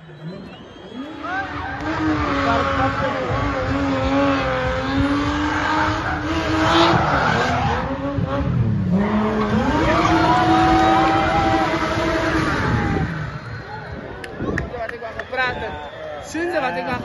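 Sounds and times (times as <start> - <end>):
car engine at high revs: 0.2 - 14.4.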